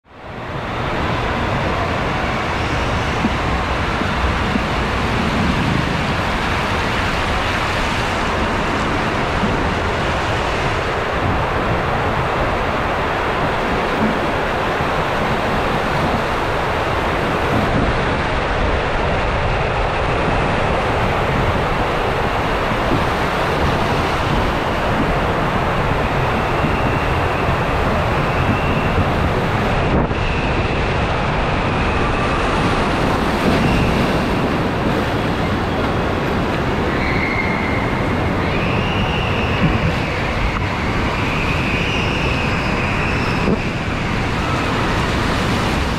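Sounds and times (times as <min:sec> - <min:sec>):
water rushing down slide tube: 0:00.1 - 0:45.9.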